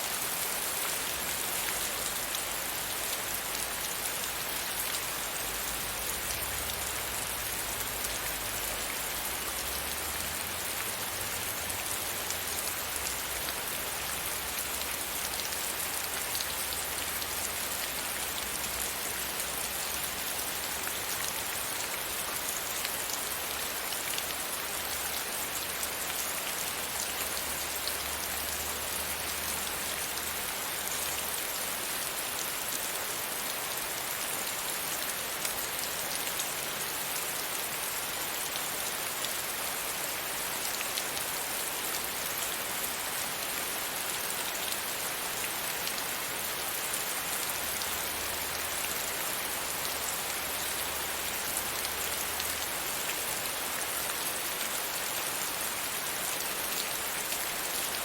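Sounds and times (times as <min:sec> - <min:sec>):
rain pattering on a window: 0:00.1 - 0:37.2, 0:44.4 - 0:55.4.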